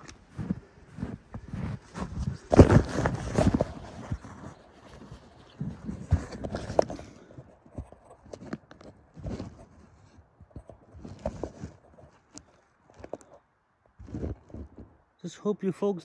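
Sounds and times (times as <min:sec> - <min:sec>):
footsteps crunching through snow: 0:00.0 - 0:13.3, 0:14.0 - 0:14.9.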